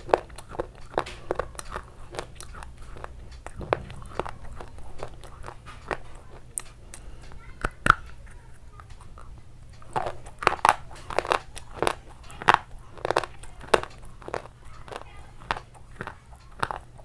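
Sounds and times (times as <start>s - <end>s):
crunchy food being chewed: 0.0s - 17.0s.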